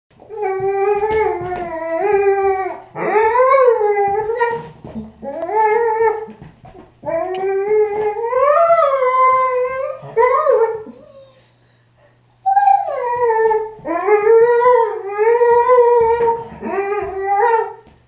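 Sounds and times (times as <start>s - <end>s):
dog whining howls: 0.2s - 6.3s, 7.0s - 11.4s, 12.4s - 17.8s.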